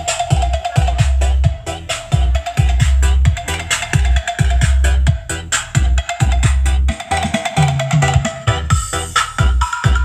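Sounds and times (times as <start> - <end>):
electronic dance music: 0.0 - 10.0
heavy repeating bass beat: 0.0 - 10.0.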